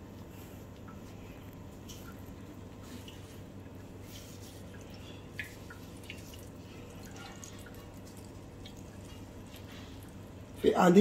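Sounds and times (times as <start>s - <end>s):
low steady hum: 0.0s - 11.0s
liquid dripping into strainer: 0.8s - 10.6s.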